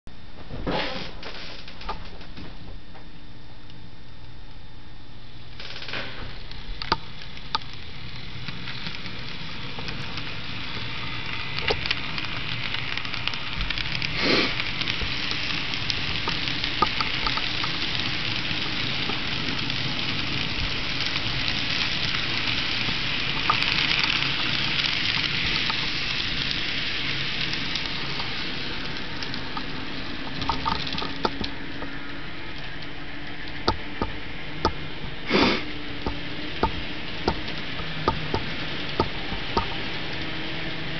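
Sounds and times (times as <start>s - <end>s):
model train wheels rattling on rails: 5.5s - 40.9s.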